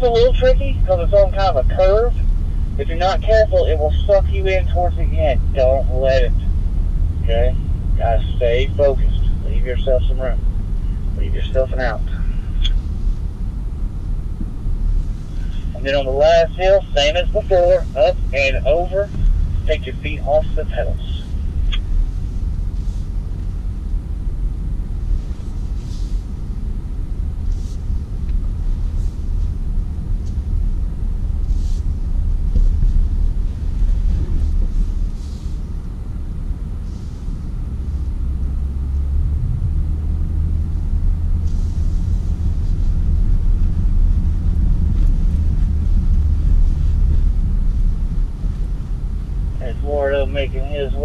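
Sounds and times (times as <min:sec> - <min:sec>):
car rumbling over dirt: 0:00.0 - 0:51.0.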